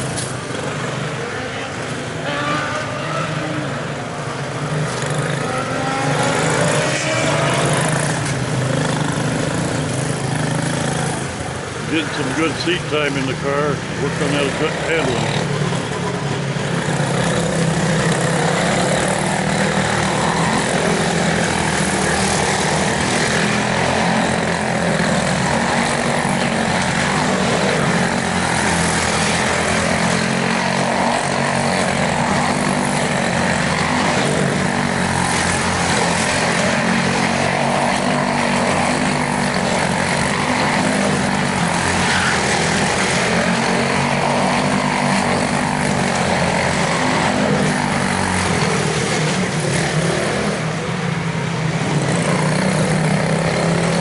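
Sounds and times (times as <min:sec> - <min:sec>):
race car engines running: 0:00.0 - 0:54.0.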